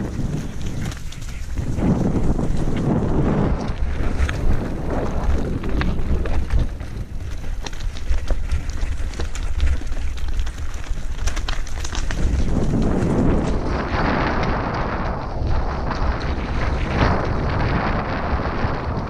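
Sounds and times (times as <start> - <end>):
bike rattling and clicking: 0.0 - 19.0
wind buffeting microphone: 0.0 - 19.0.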